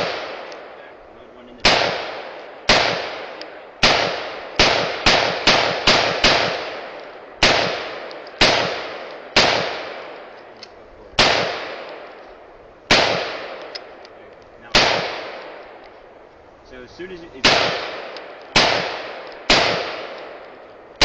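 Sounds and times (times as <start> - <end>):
echoing gunshots: 0.0 - 10.5, 11.1 - 12.2, 12.8 - 14.0, 14.6 - 16.2, 17.1 - 21.0.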